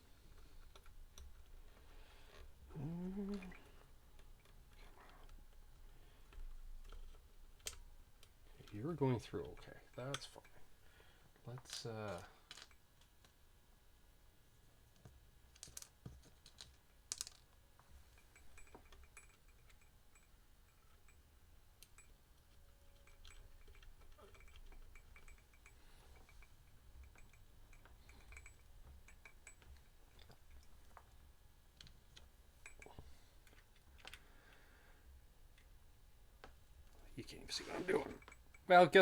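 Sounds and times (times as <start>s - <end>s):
faint low hum: 0.0s - 39.0s
small metallic clicks and ticks: 0.2s - 10.7s, 11.5s - 13.4s, 14.9s - 34.6s, 37.9s - 39.0s.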